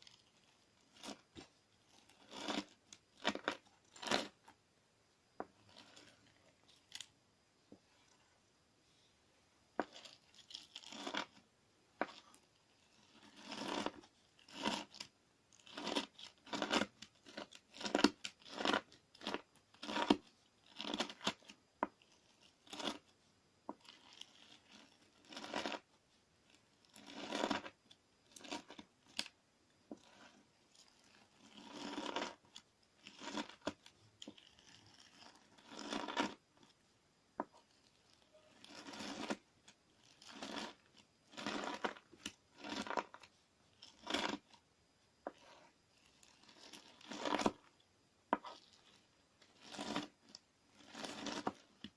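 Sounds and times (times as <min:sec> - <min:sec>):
gritty slime being worked: 0:00.0 - 0:04.6, 0:05.3 - 0:09.1, 0:09.7 - 0:51.9.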